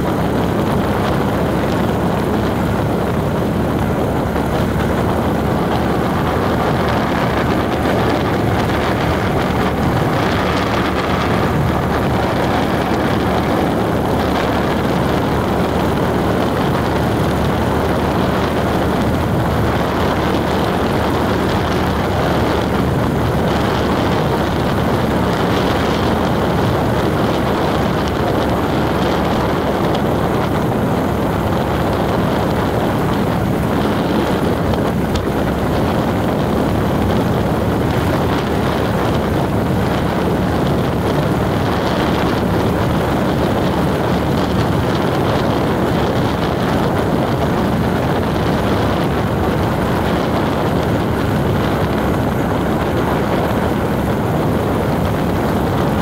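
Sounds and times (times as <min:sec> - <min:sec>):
tyre and wind noise: 0:00.0 - 0:56.0
vehicle engine hum: 0:00.0 - 0:56.0.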